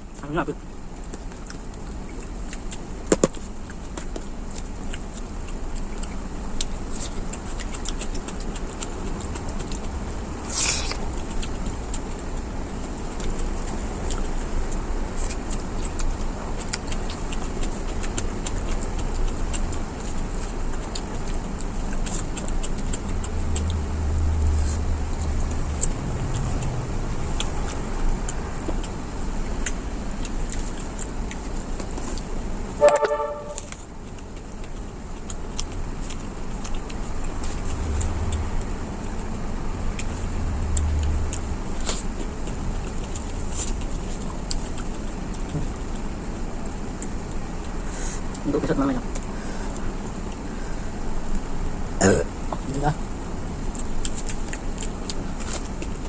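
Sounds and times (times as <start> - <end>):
road traffic rumble: 0.0 - 56.0
heavy vehicle rumble: 6.3 - 56.0.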